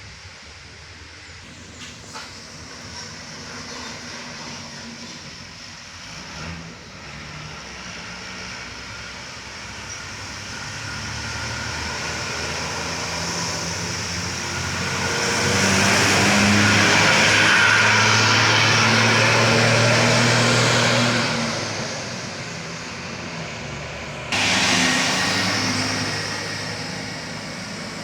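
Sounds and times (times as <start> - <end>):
truck engine under load: 1.4 - 28.0.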